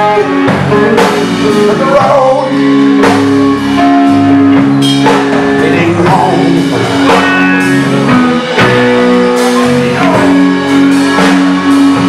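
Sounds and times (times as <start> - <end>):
bass and drums: 0.0 - 12.0
electric guitar held notes: 0.0 - 12.0.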